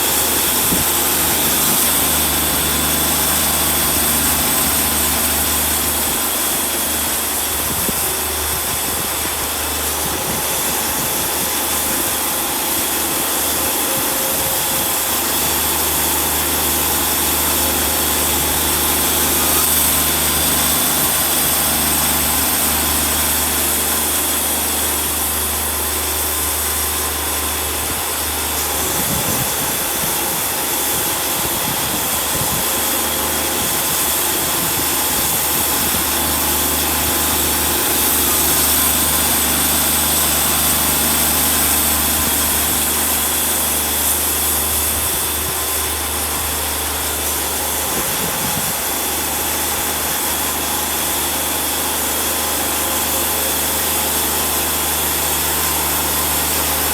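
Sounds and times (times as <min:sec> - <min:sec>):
band blade sawing log: 0:00.0 - 0:56.9
sawmill engine droning: 0:00.0 - 0:56.9.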